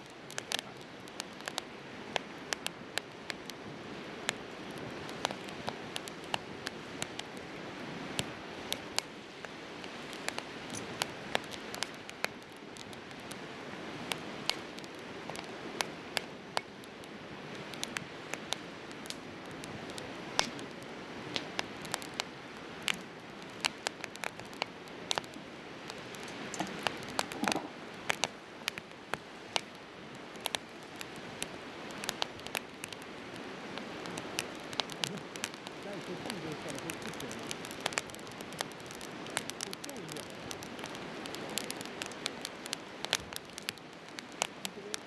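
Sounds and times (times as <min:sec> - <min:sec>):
campfire crackling and popping: 0:00.0 - 0:45.0
fire hissing: 0:00.0 - 0:45.0.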